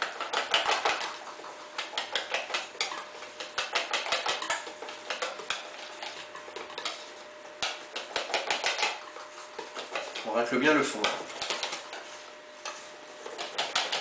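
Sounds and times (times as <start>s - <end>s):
whisk clicking against metal bowl: 0.0s - 9.0s, 9.6s - 12.0s, 13.4s - 14.0s.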